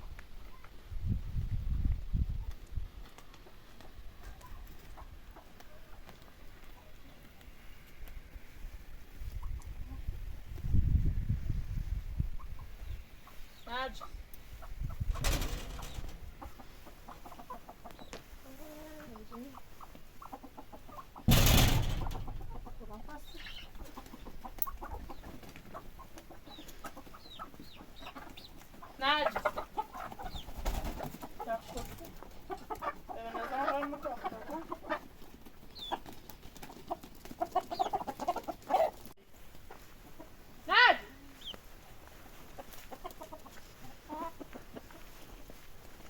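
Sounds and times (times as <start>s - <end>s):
chickens clucking: 3.2s - 8.5s, 9.2s - 40.6s, 41.3s - 46.0s.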